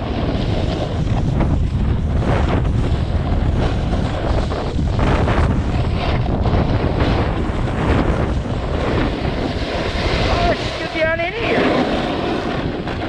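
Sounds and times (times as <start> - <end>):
wind buffeting microphone: 0.0 - 13.0
snowboard edges scraping snow: 0.1 - 13.0.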